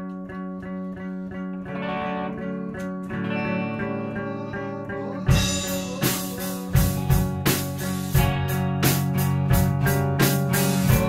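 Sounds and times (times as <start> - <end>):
guitar playing sustained chords: 0.0 - 11.0.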